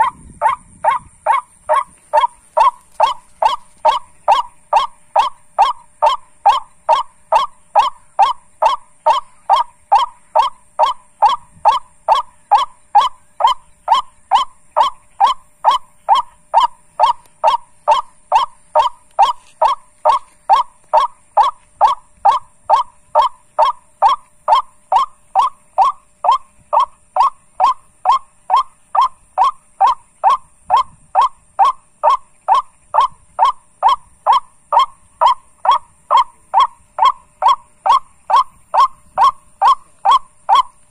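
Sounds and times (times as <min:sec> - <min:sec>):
repeated honking bird call: 0:00.0 - 0:40.9.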